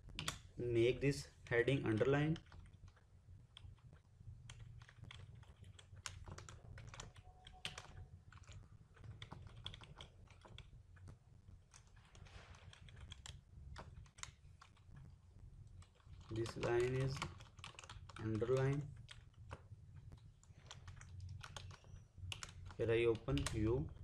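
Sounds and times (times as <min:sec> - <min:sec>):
keyboard typing: 0:00.0 - 0:00.5, 0:01.7 - 0:24.0
low steady hum: 0:00.0 - 0:24.0.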